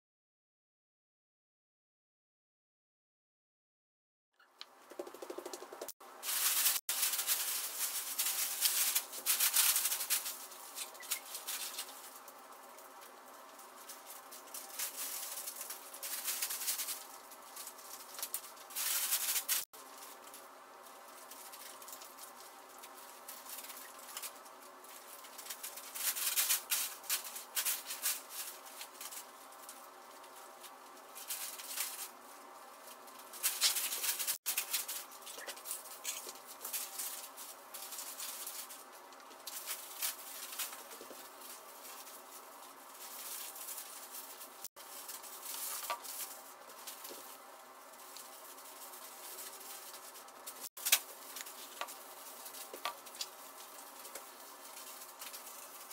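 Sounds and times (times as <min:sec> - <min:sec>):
plastic sheeting crinkling: 0:06.0 - 0:55.9.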